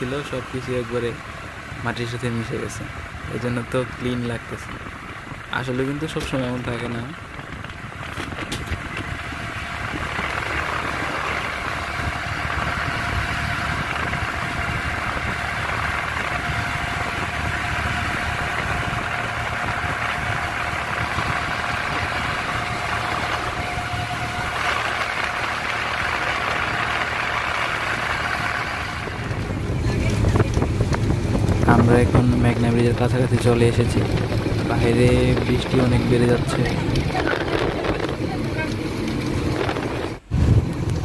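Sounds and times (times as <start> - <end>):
engine rumble: 0.0 - 41.0.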